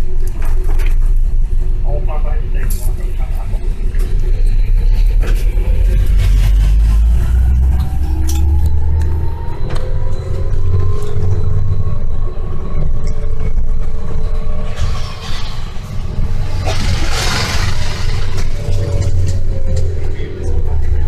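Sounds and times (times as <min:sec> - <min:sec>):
bus engine rumbling: 0:00.0 - 0:21.0.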